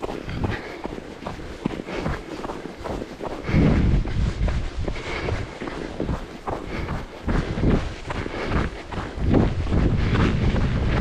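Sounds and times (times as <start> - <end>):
running footsteps: 0.0 - 11.0
wind rumble on microphone: 0.0 - 11.0.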